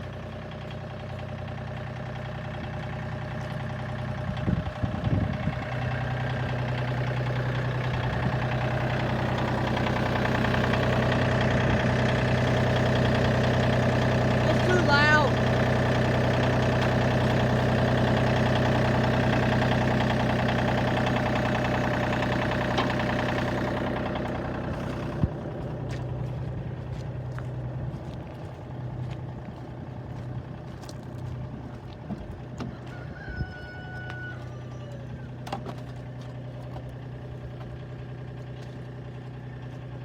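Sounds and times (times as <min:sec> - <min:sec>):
tractor engine idling: 0:00.0 - 0:40.0.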